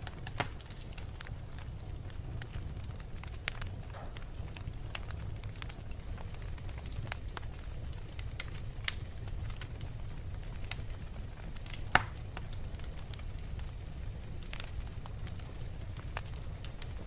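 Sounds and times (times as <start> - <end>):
logs crackling and popping: 0.0 - 17.0
low rumble of flame: 0.0 - 17.0.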